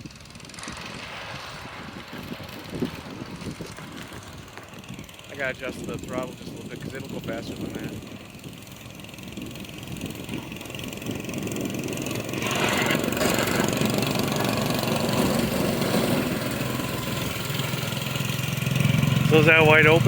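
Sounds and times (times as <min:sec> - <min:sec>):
snowmobile engine approaching: 0:00.0 - 0:20.0.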